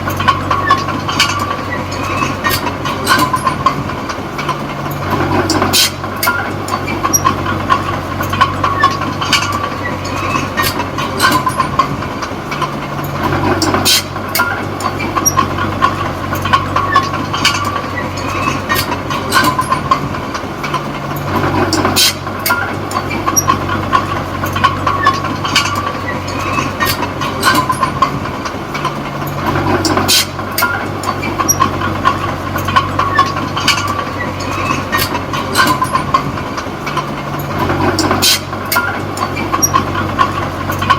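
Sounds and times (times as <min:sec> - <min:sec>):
bulldozer diesel engine: 0:00.0 - 0:40.9
steel tracks clattering and squeaking: 0:00.0 - 0:40.9
sharp metal clanks: 0:00.1 - 0:40.9.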